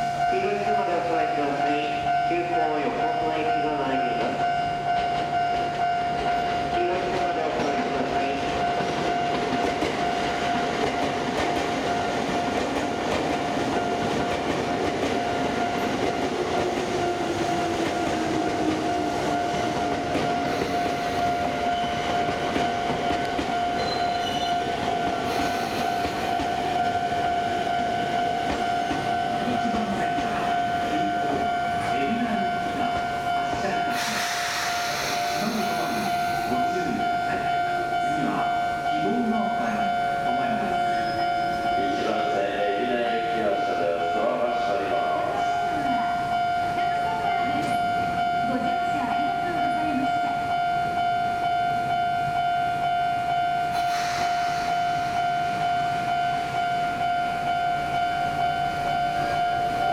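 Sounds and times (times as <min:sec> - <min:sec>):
electric train slowing to a stop: 0:00.0 - 0:59.9
steady high-pitched tone: 0:00.0 - 0:59.9.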